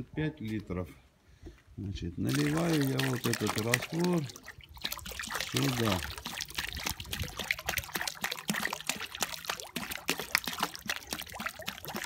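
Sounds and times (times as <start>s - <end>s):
liquid pouring into a bucket: 2.3s - 12.0s.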